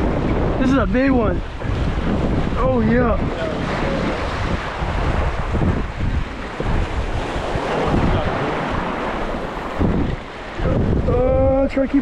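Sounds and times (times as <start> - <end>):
surf splashing over boulders: 0.0 - 12.0
wind buffeting microphone: 0.0 - 12.0.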